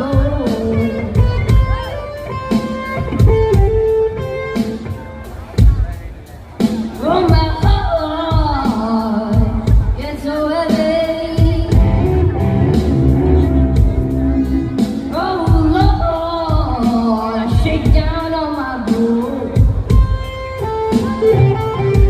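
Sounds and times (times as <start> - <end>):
person singing blues: 0.0 - 5.9, 6.6 - 22.0
instrumental backing with steady beat: 0.0 - 22.0.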